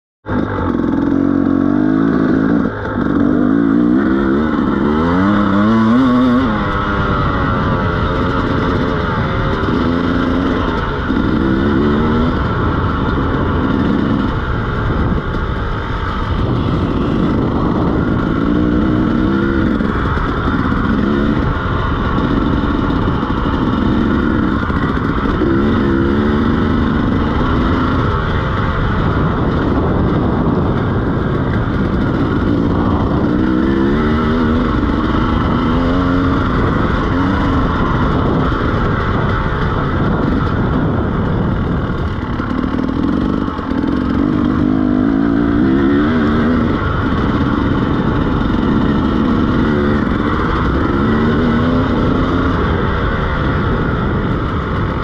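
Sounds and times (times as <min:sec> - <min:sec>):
dirt bike engine revving: 0:00.2 - 0:55.0.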